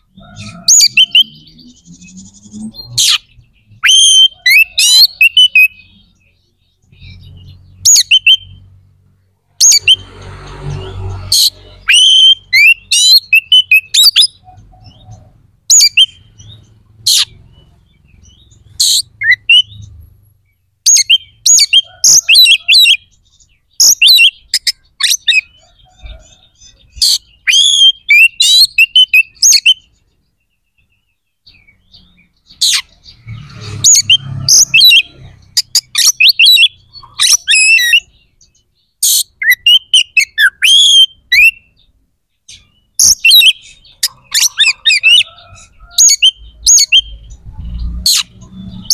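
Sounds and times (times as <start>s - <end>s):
magpie-robin singing: 0.0s - 8.8s, 9.6s - 10.1s, 11.0s - 48.9s.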